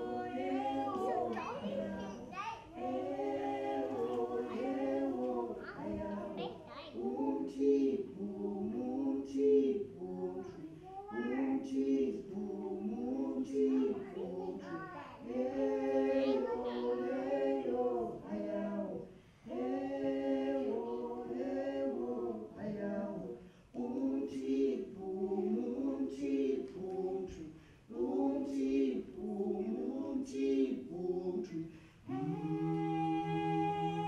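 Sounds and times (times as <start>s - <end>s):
group singing a cappella: 0.0s - 34.0s.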